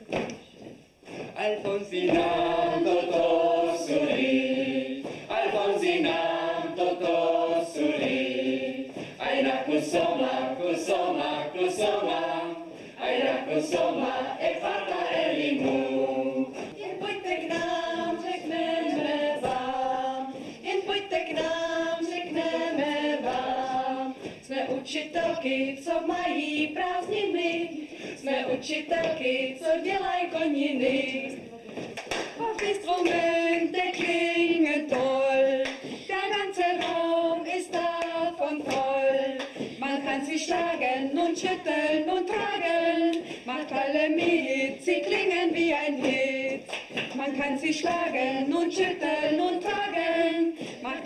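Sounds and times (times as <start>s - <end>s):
group singing unaccompanied: 1.1s - 51.0s.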